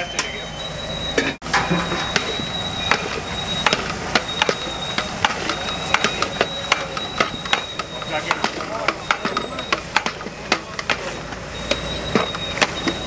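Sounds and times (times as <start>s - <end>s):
metal ladle scraping steel pot: 1.2s - 13.0s.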